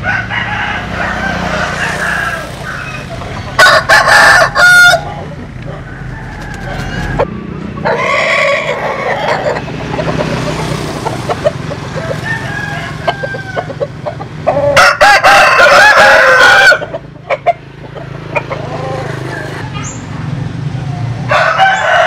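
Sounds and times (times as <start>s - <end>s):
roosters crowing: 0.0s - 19.8s, 20.8s - 22.0s
rooster clucking: 0.0s - 20.0s.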